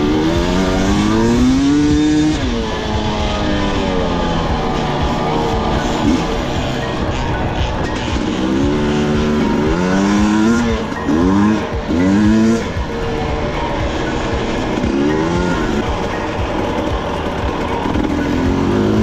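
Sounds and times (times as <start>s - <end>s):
two-stroke dirt bike engine revving: 0.0s - 19.0s.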